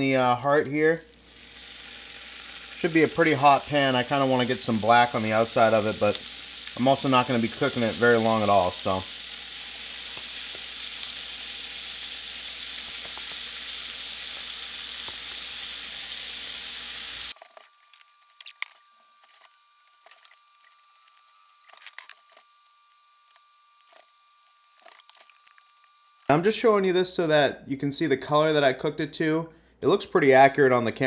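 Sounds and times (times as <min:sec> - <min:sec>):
meat sizzling in a frying pan: 0:01.1 - 0:26.3.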